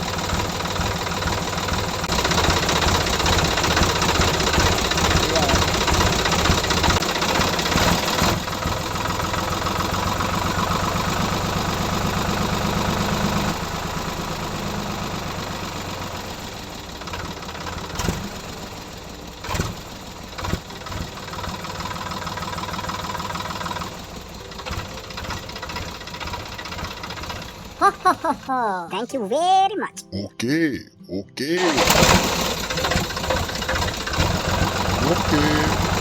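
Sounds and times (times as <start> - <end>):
small engine running: 0.0 - 27.8, 31.6 - 36.0.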